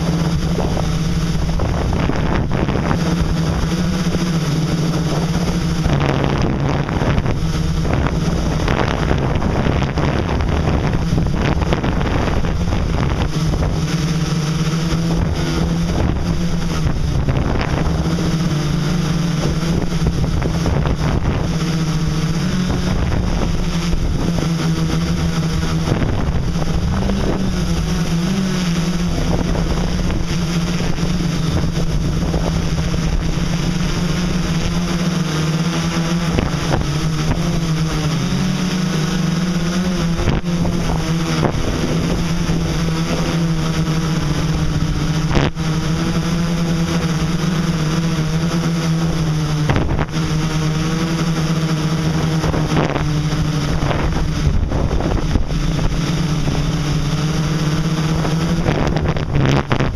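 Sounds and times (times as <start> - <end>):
drone motors humming: 0.0 - 59.9
wind noise on microphone: 0.0 - 59.9.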